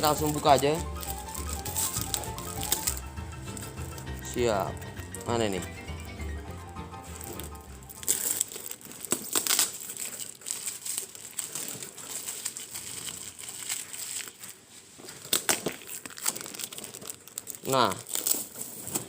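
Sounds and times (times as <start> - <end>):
plastic pouch crinkling: 0.0 - 5.3, 7.1 - 19.0.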